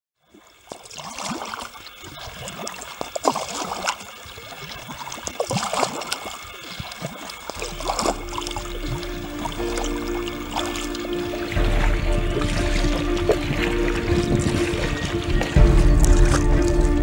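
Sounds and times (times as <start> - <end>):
water splashing around kayak: 0.2 - 17.0.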